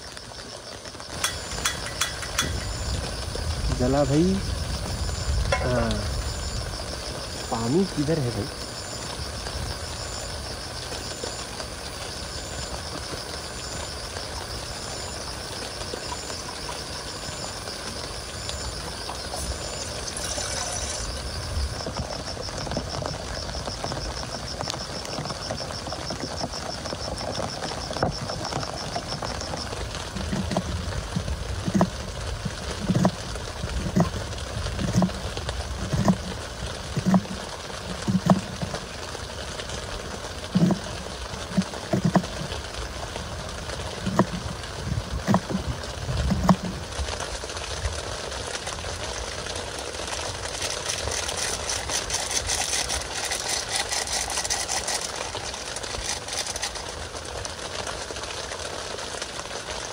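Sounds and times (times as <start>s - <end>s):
insects chirping: 0.0s - 59.9s
rain on a tent: 0.0s - 59.9s.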